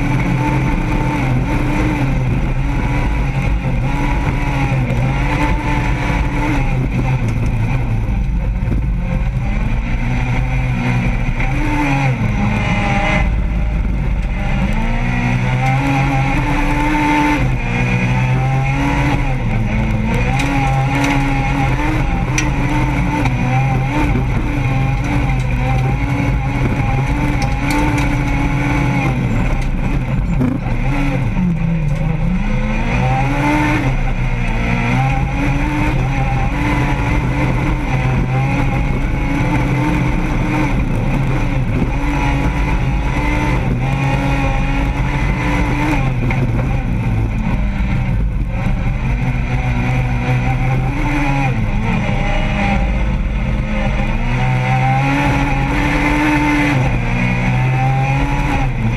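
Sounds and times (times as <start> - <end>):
race car engine revving: 0.0 - 58.9.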